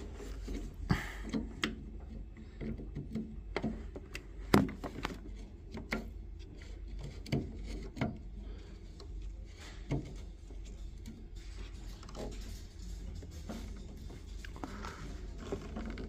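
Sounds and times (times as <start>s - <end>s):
metal rubbing: 0.0s - 16.0s.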